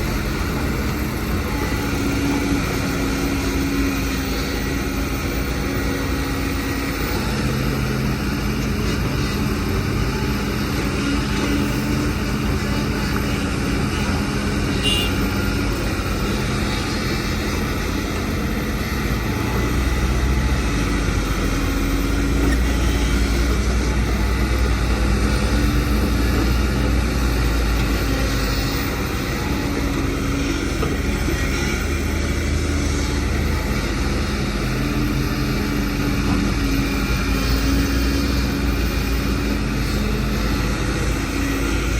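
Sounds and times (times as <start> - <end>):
deep engine rumble: 0.0 - 41.9
heavy machinery diesel engines droning: 0.0 - 41.9.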